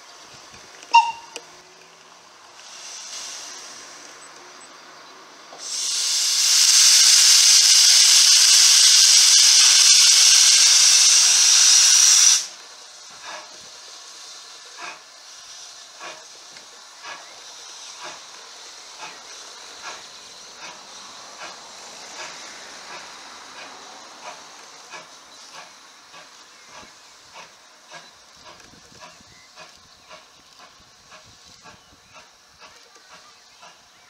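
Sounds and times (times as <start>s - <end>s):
steam locomotive hissing steam: 0.0s - 34.0s.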